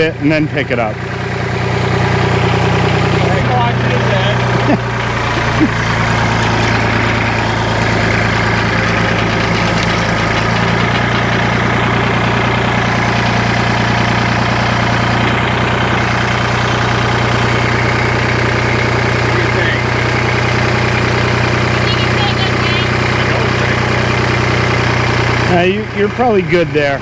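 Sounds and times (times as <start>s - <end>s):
heavy engine running: 0.0s - 27.0s.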